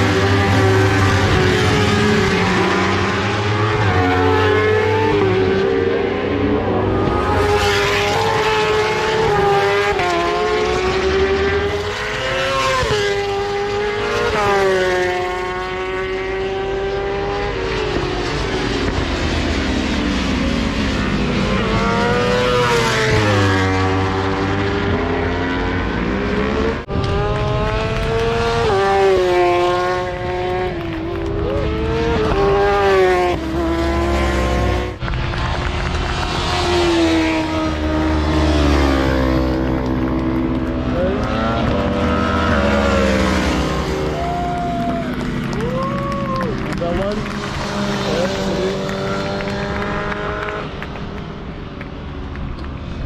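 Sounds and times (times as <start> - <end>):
motorcycle engines revving: 0.0 - 53.0.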